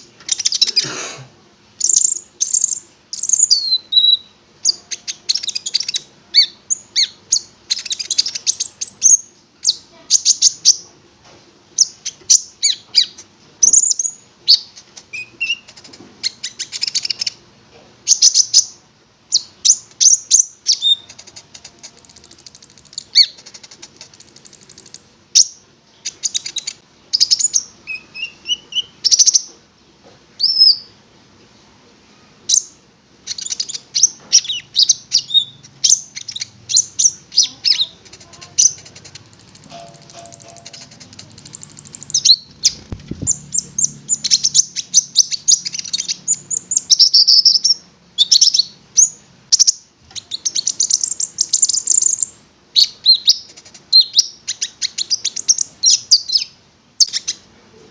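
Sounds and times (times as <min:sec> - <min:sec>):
songbird singing: 0:01.8 - 0:10.8, 0:11.8 - 0:17.4, 0:18.1 - 0:29.5, 0:32.5 - 0:57.4.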